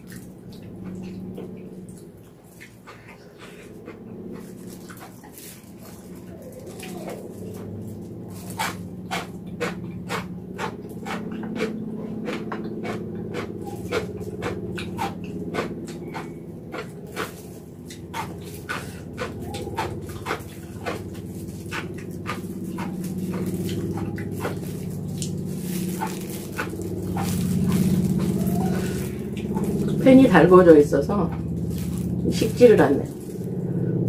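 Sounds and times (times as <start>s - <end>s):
chewing and wet mouth clicks: 0.0s - 30.0s
steady low hum: 0.0s - 34.0s.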